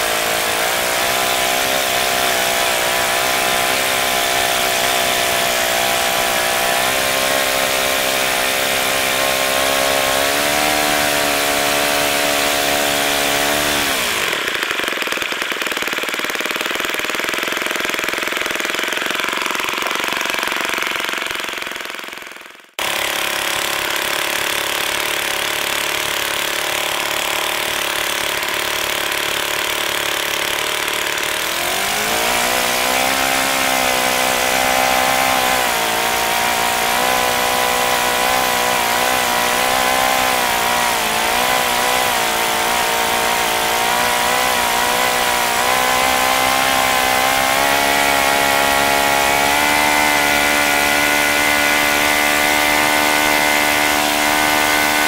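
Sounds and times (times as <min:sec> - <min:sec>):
model engine running: 0:00.0 - 0:55.0.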